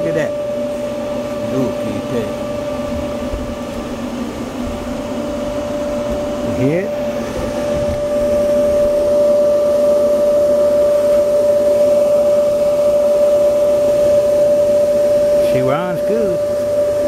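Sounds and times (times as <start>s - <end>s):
motor and blower humming: 0.0s - 17.0s.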